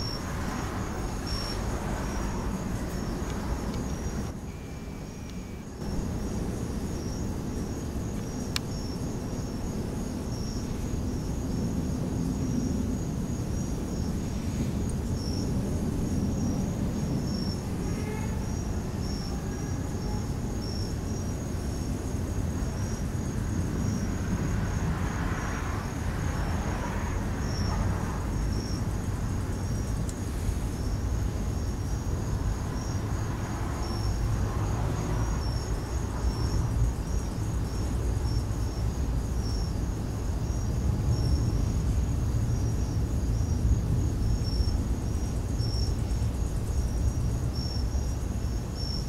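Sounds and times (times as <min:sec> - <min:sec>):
crickets chirping: 0:00.0 - 0:49.0.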